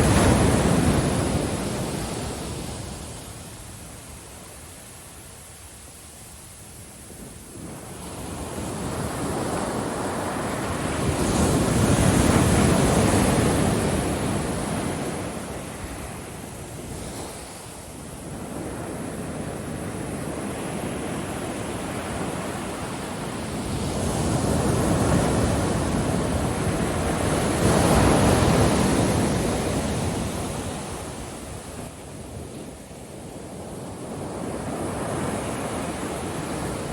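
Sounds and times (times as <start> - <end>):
waves breaking on a beach: 0.0 - 36.9.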